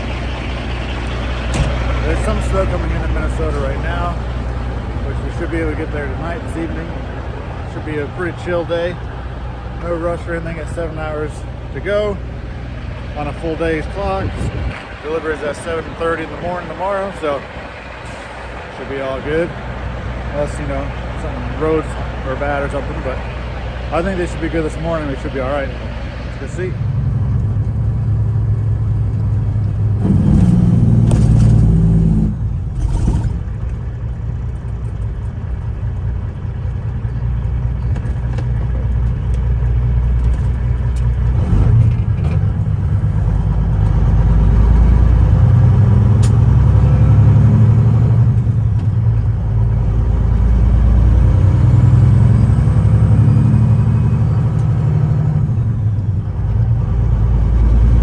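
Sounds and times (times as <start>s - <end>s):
truck diesel engine rumbling: 0.0s - 58.0s.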